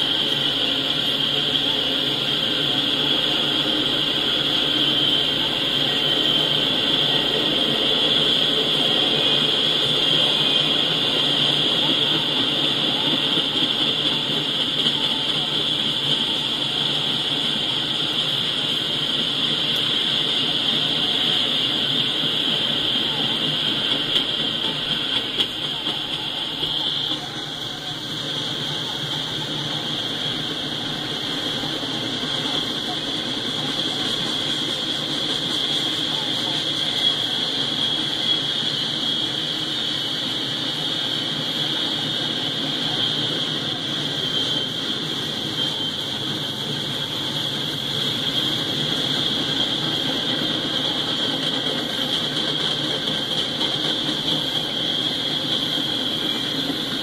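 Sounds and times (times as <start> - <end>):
freight train wheels rumbling: 0.0 - 57.0
high-pitched hiss: 0.0 - 57.0.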